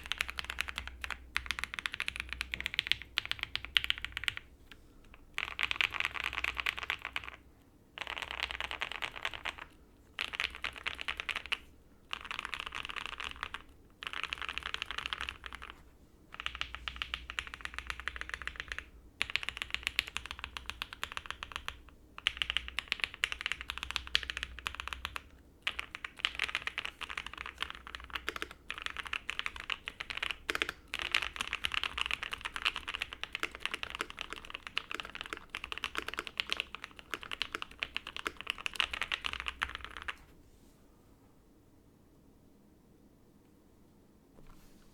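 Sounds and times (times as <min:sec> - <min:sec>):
mechanical keyboard typing: 0:00.0 - 0:04.5, 0:05.4 - 0:07.4, 0:08.0 - 0:40.2.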